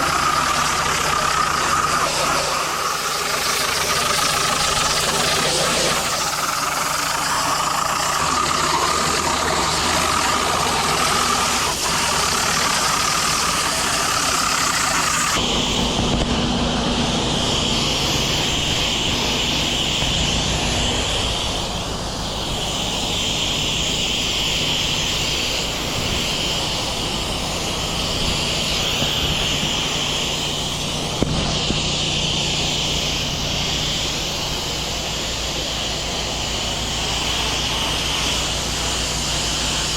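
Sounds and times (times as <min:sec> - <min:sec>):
pressure washer engine running: 0:00.0 - 0:39.9
water spray hissing: 0:00.0 - 0:39.9.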